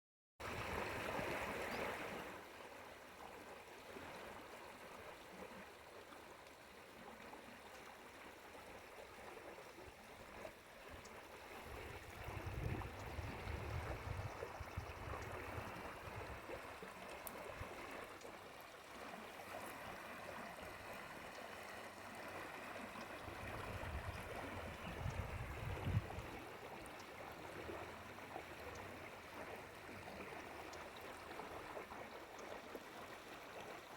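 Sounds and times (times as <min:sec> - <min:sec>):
stream flowing and gurgling: 0:00.4 - 0:33.9.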